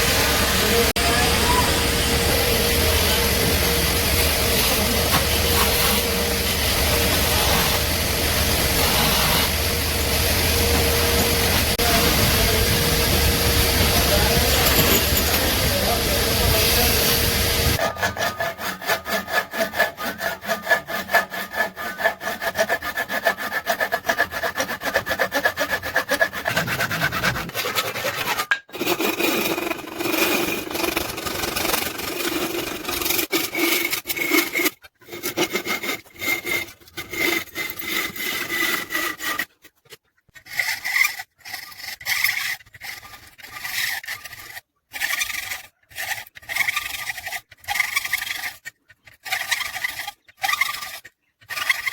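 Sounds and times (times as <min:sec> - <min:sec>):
hand saw rasping: 0:03.0 - 0:51.9.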